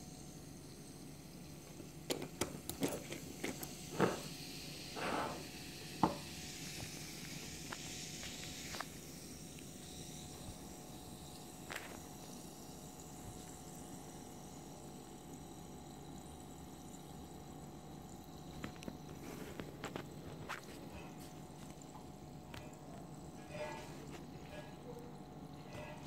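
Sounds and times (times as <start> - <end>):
granules fizzing in water: 0.1 - 25.7.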